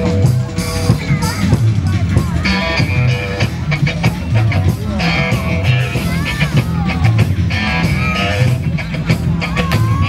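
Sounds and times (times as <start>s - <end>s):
rock music with singing: 0.0s - 10.0s.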